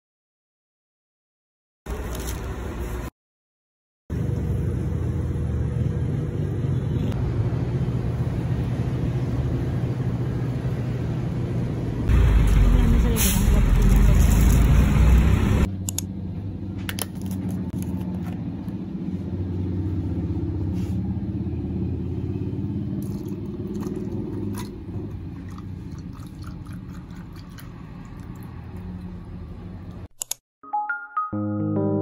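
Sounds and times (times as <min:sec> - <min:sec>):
vehicle engine low rumble: 0:04.1 - 0:30.1.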